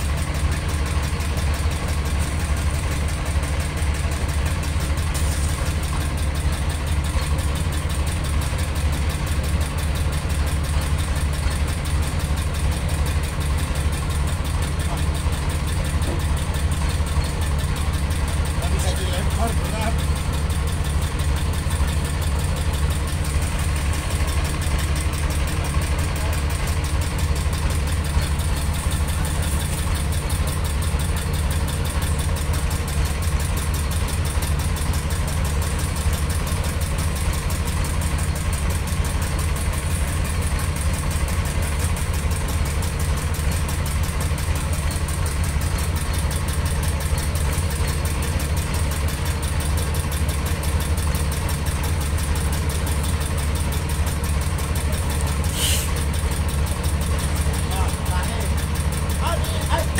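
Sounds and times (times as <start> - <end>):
boat engine idling: 0.0 - 59.9.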